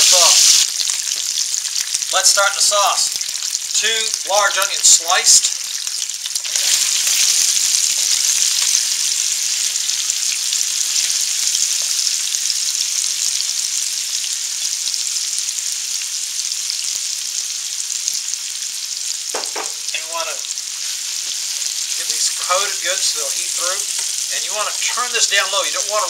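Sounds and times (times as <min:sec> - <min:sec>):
onions sizzling in a pan: 0:00.0 - 0:26.0.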